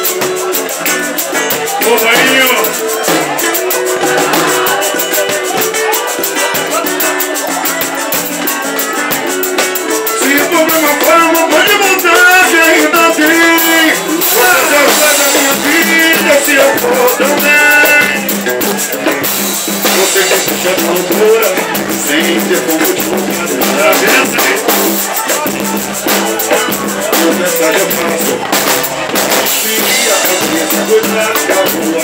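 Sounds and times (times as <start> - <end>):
drum and cymbal hits: 0.0 - 32.0
live band playing: 0.0 - 32.0.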